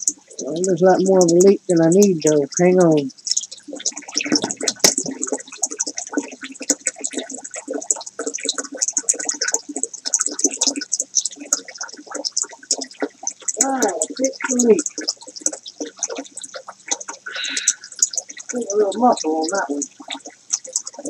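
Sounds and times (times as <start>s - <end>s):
water splashing and gurgling: 0.0s - 21.0s.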